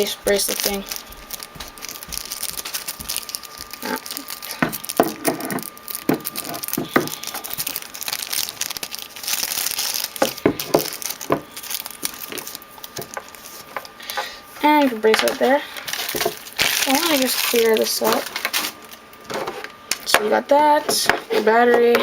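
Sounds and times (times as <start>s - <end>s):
packaging crinkling and rustling: 0.0s - 20.1s.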